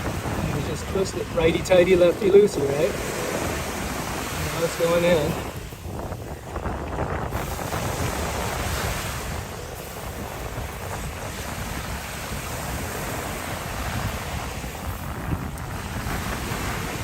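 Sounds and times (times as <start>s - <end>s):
rushing surf: 0.0s - 17.0s
wind buffeting microphone: 0.0s - 17.0s.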